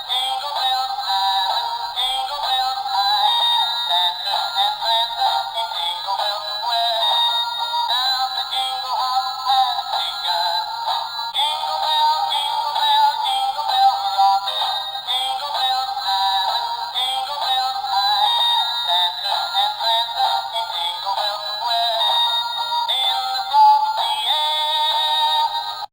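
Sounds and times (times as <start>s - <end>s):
synthetic singing voice: 0.0s - 25.9s.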